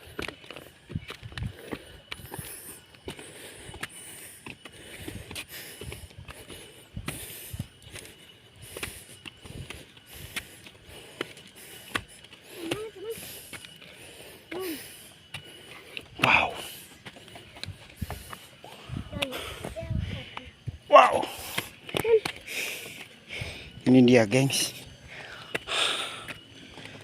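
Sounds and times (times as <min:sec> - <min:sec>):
footsteps on trail: 0:00.0 - 0:27.0.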